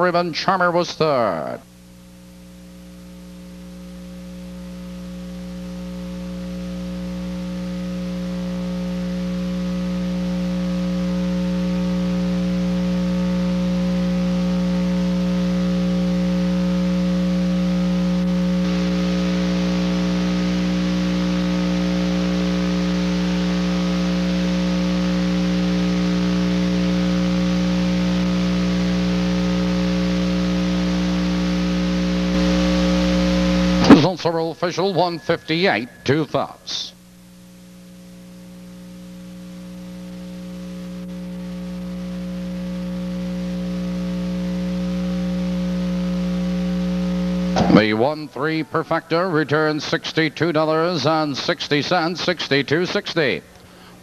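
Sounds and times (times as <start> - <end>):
electrical hum with hiss: 0.0 - 54.0.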